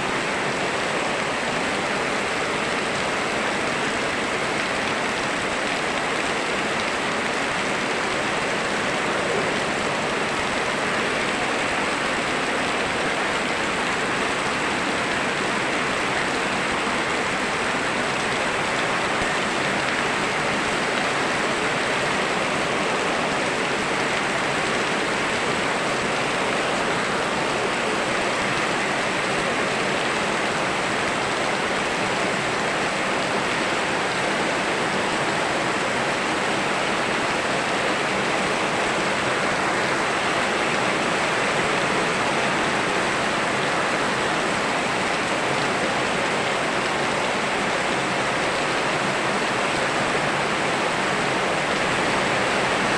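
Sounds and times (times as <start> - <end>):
rushing river water: 0.0 - 52.9
steady rain: 0.0 - 52.9.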